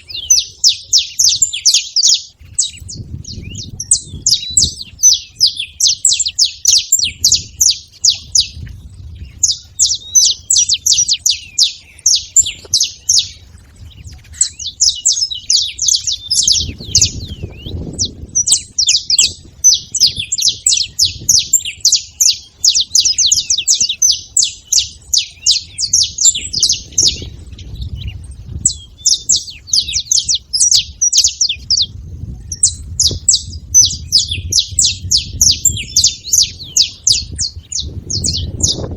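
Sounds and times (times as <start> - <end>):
finch singing rapid high chirps: 0.0 - 38.9.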